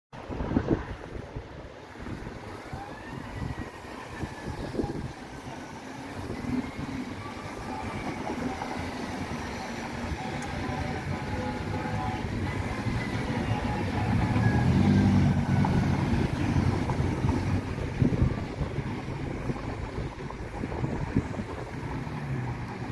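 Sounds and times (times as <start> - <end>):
vehicles passing: 0.2 - 22.9
distant siren: 2.3 - 22.9.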